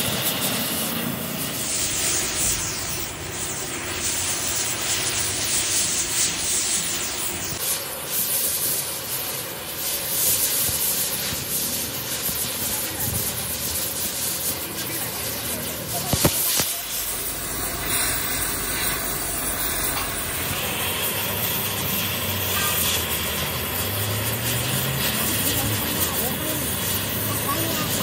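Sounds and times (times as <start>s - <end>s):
welding torch flame rushing: 0.0s - 28.0s.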